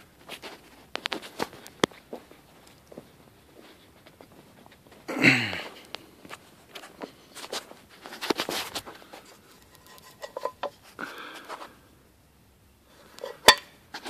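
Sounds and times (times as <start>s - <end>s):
handling rustles: 0.0s - 11.8s, 13.0s - 14.0s.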